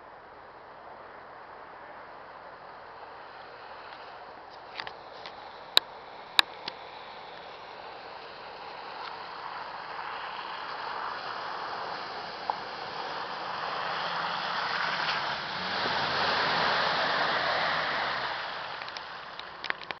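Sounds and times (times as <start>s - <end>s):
tyres splashing through puddles: 2.2s - 20.0s.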